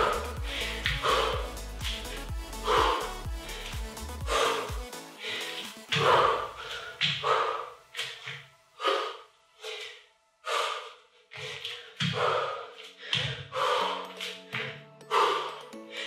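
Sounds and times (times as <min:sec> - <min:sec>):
woman breathing hard: 0:00.0 - 0:16.0.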